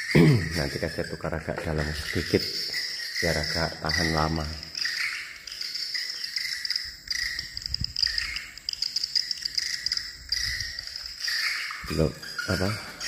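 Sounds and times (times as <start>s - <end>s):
electronic bird chirping: 0.0s - 13.0s.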